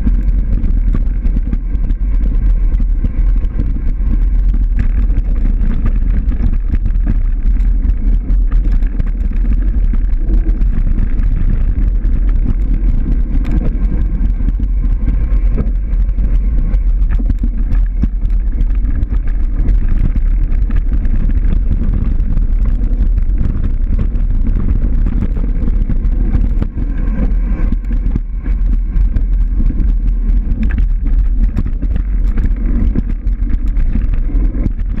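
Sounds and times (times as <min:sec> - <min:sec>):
small clicks and rattles: 0:00.0 - 0:35.0
wind buffeting microphone: 0:00.0 - 0:35.0.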